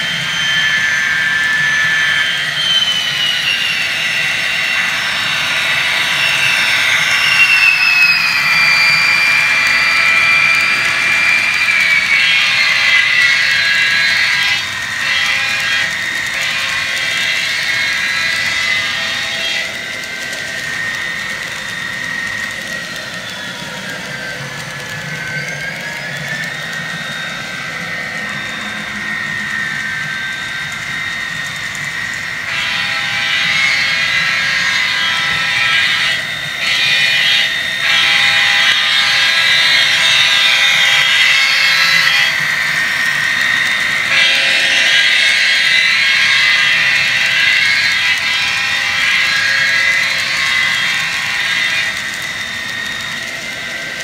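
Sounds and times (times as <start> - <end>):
model locomotive engine drone: 0.0 - 54.0
model train running on track: 0.0 - 54.0.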